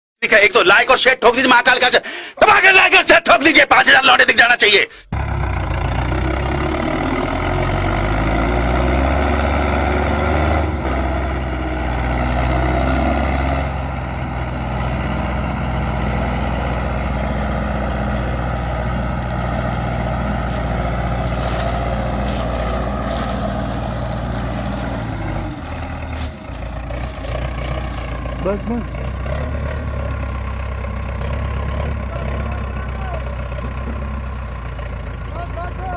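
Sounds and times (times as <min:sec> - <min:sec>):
tractor diesel engine running: 0:05.1 - 0:35.9.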